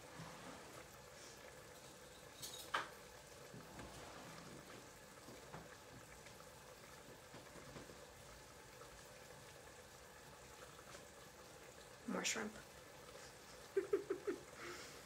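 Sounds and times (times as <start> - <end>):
soup bubbling in a pot: 0.0 - 15.0.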